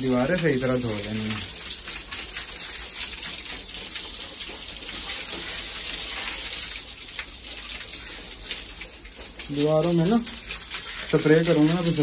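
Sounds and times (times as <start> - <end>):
water gushing from a hose: 0.0 - 12.0.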